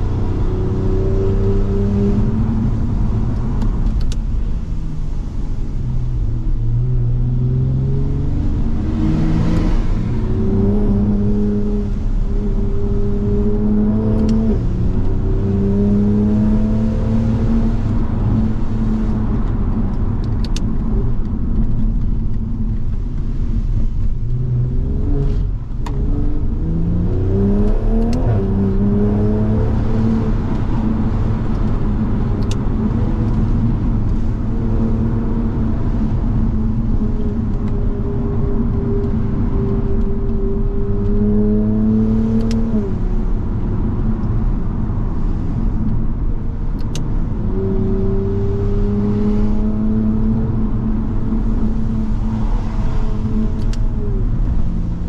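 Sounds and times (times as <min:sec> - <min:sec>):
car engine accelerating: 0:00.0 - 0:55.0
tyres rumbling on road: 0:00.0 - 0:55.0.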